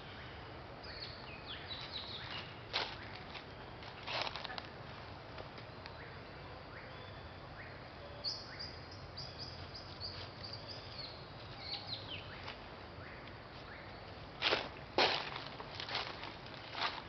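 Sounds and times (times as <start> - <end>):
birds chirping: 0.0 - 4.8, 5.4 - 17.0
outdoor background noise: 0.0 - 17.0.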